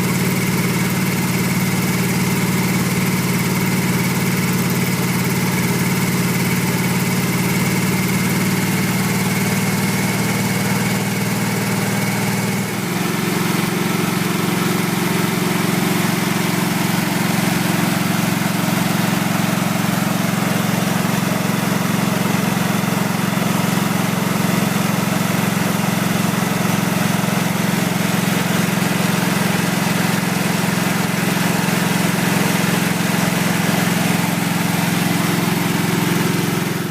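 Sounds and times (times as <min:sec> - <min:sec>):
generator engine running: 0:00.0 - 0:36.9.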